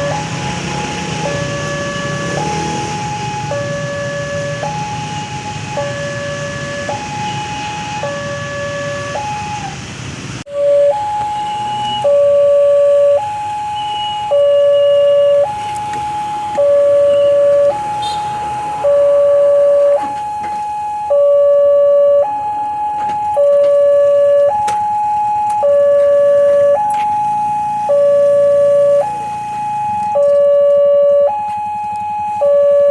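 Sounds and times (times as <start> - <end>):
level crossing two-tone alarm: 0.0 - 9.8, 10.5 - 32.9.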